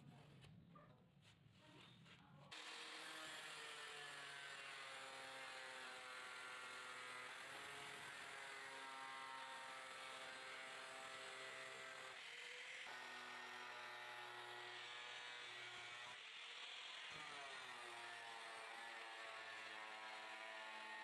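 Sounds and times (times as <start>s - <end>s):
angle grinder cutting iron: 2.5s - 21.0s.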